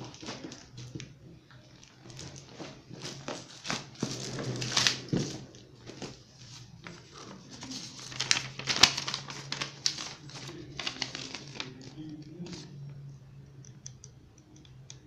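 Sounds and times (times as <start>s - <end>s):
paper and plastic crinkling: 0.0s - 12.8s.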